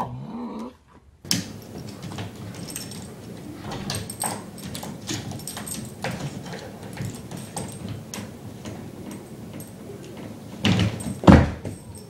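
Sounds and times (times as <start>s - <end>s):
baby gate rattling: 1.3s - 12.0s
dog claws scrabbling: 1.3s - 12.0s.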